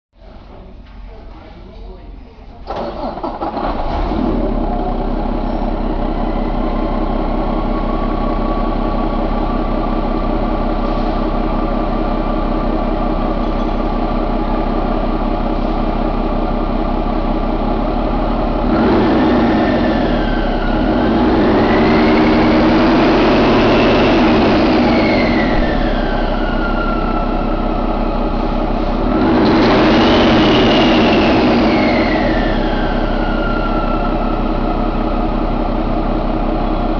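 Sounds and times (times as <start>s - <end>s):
diesel engine idling and revving: 2.7s - 36.9s.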